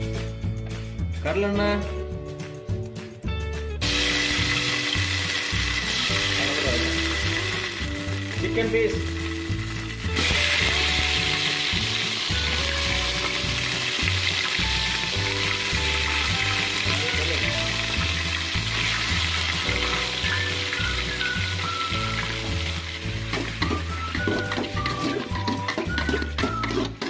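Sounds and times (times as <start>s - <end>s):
background music: 0.0s - 27.0s
chicken sizzling in hot oil: 3.8s - 27.0s.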